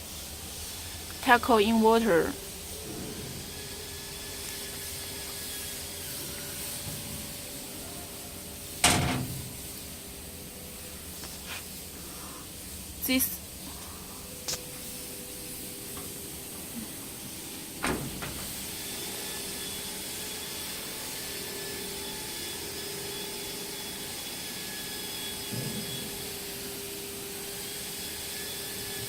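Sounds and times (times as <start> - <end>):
machine hiss with whining tones: 0.0 - 29.0.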